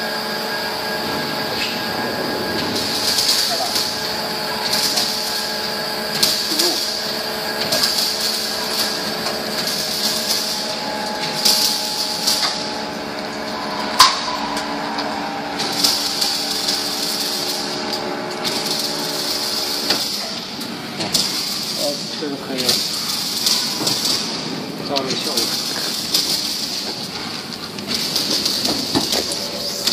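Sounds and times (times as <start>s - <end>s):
machine hum: 0.0s - 29.9s.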